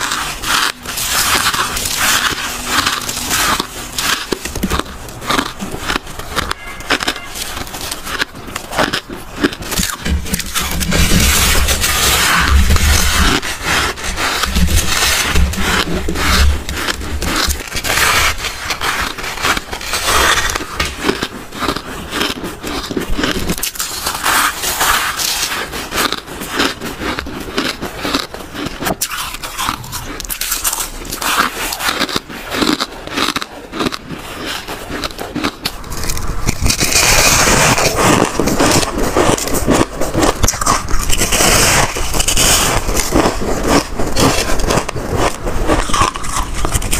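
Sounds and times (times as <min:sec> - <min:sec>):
chewing crunchy ice: 0:00.0 - 0:46.9.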